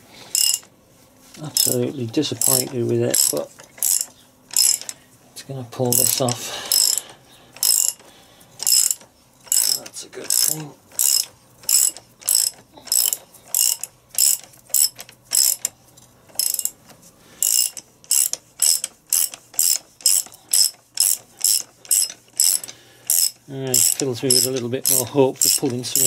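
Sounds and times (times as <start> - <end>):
hand ratchet clicking: 0.3 - 0.7, 1.5 - 5.0, 5.9 - 16.8, 17.4 - 26.0.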